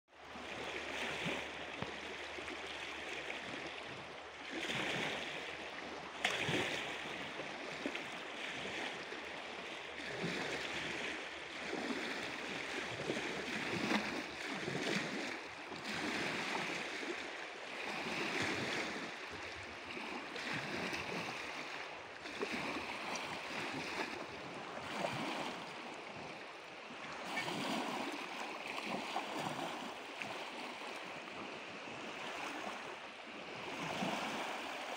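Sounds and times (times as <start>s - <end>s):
water lapping and splashing: 0.2s - 34.9s.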